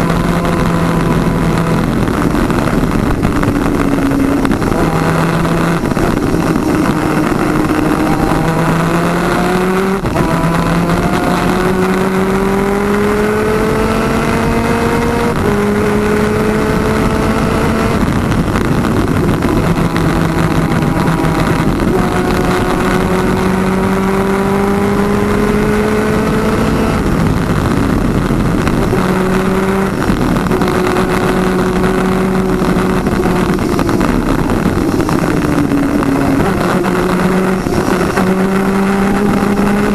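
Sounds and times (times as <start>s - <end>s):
kart engine at race speed: 0.0s - 39.9s
wind noise: 0.0s - 39.9s.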